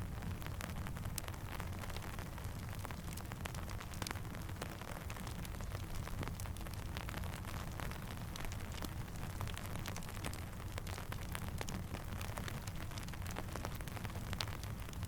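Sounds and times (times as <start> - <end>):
campfire crackling: 0.0 - 15.0
steady rain falling: 0.0 - 15.0.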